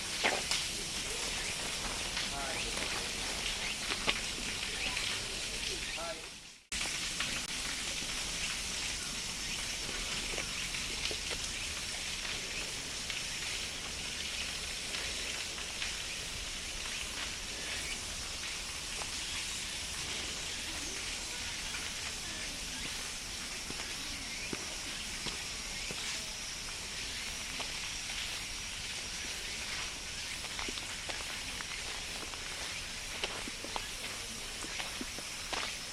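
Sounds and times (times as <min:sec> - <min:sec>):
cicadas buzzing: 0:00.0 - 0:35.9.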